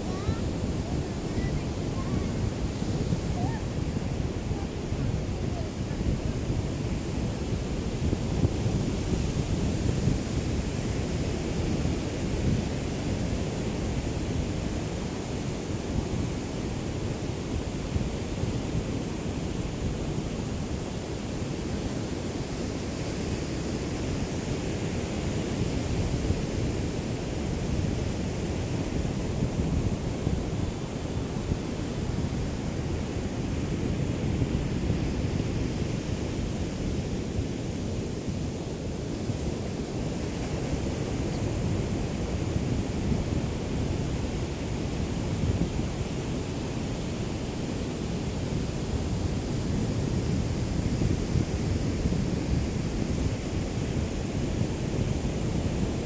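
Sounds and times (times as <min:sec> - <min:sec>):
small waves lapping on beach: 0:00.0 - 0:56.0
wind rumble on microphone: 0:00.0 - 0:56.0.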